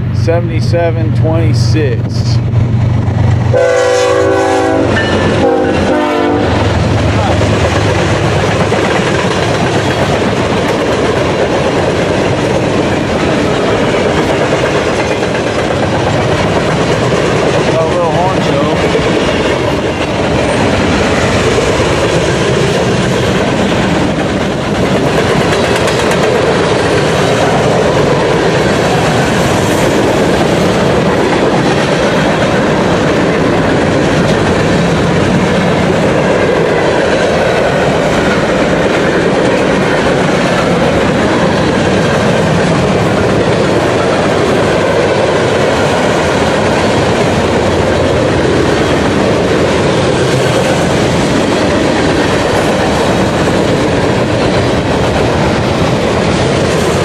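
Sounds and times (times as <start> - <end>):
steel wheels running on rails: 0.8 - 57.0.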